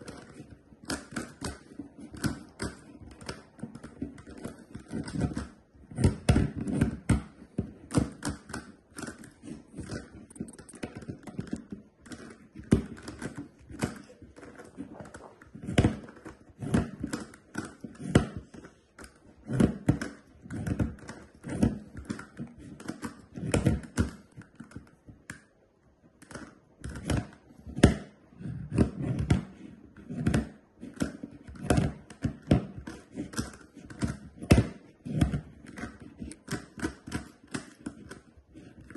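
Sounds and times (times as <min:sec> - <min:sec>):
plastic puzzle clicking: 0:00.0 - 0:38.9.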